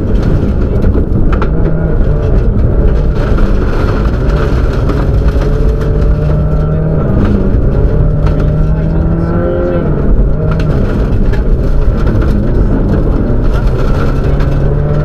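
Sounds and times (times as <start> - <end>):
rally car engine running hard: 0.0 - 15.0
tyres roaring on gravel: 0.0 - 15.0.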